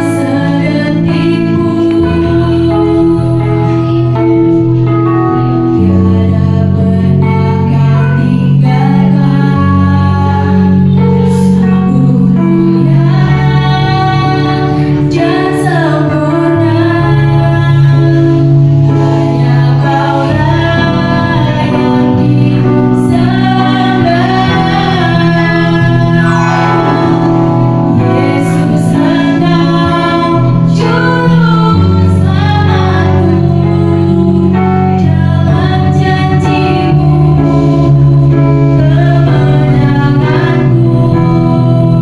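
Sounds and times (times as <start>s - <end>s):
electronic keyboard chords: 0.0s - 42.0s
girls singing duet: 0.0s - 42.0s.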